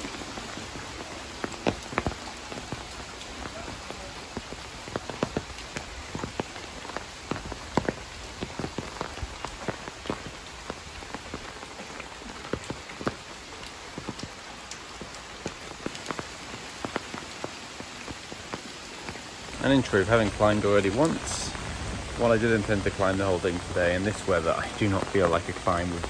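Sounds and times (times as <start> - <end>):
raindrops tapping on an umbrella: 0.0 - 26.0
steady rain: 0.0 - 26.0.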